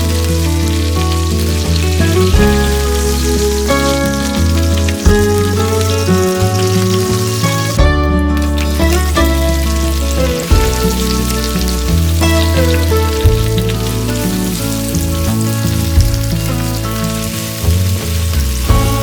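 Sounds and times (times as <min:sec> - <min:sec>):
background music with bass line: 0:00.0 - 0:19.0
food sizzling in a pan: 0:00.0 - 0:19.0.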